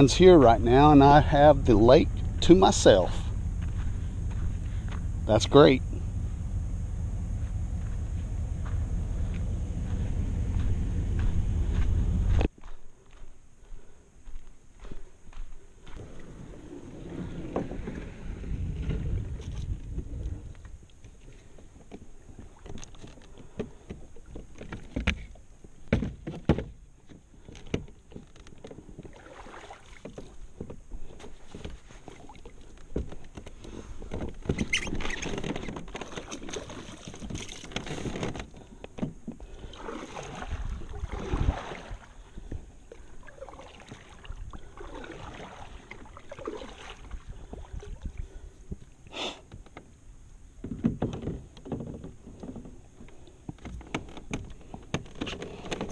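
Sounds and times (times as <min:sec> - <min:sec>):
water swishing around hull: 0:00.0 - 0:12.5, 0:15.6 - 0:55.9.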